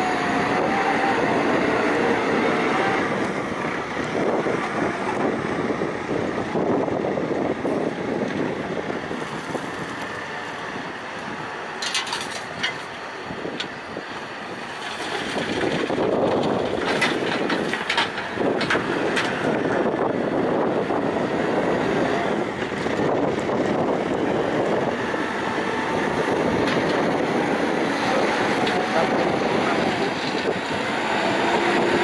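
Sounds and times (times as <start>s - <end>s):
diesel engine working: 0.0s - 32.0s.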